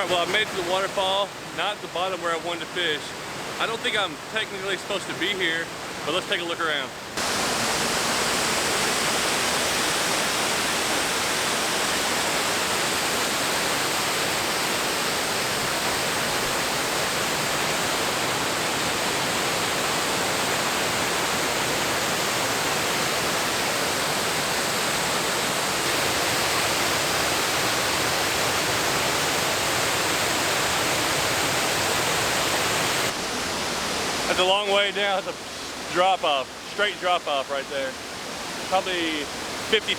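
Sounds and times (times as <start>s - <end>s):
waterfall hiss: 0.0s - 39.9s.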